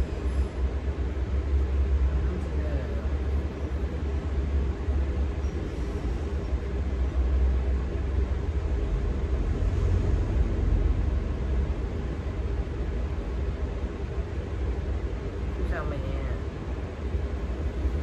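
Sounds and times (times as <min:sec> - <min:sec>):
low rumble: 0:00.0 - 0:15.6.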